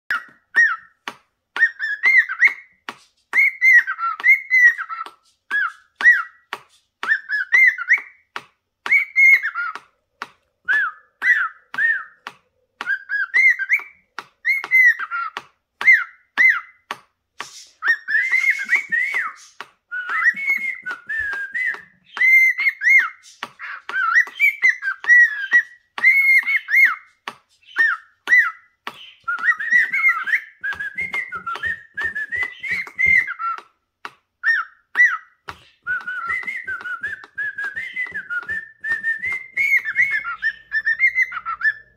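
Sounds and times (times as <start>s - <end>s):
cockatiel whistling: 0.1s - 1.0s, 1.6s - 8.2s, 8.8s - 9.8s, 10.6s - 16.8s, 17.4s - 33.7s, 34.4s - 41.9s.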